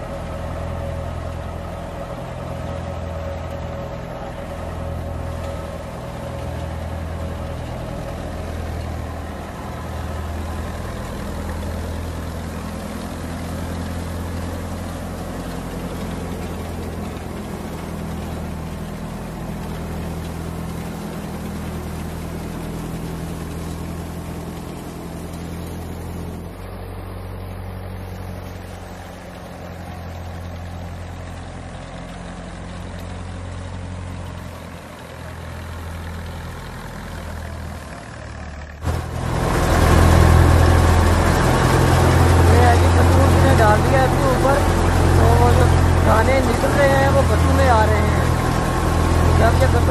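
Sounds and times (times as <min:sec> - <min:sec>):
blower and straw rushing: 0:00.0 - 0:49.9
thresher engine hum: 0:00.0 - 0:49.9.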